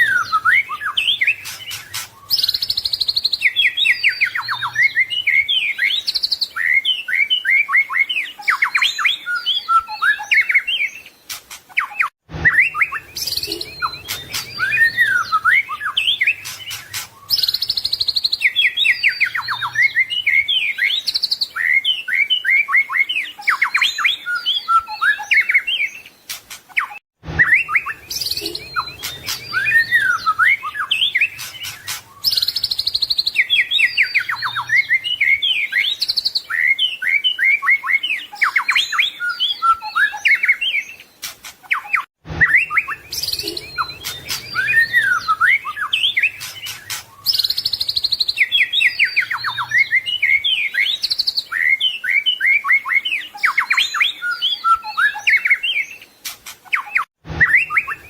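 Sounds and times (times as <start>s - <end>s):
bird singing whistles and trills: 0.0s - 58.0s.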